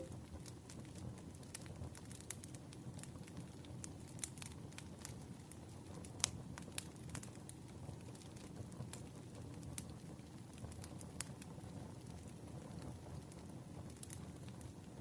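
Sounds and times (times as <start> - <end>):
campfire crackling: 0.0 - 15.0
fire pops and snaps: 0.1 - 15.0.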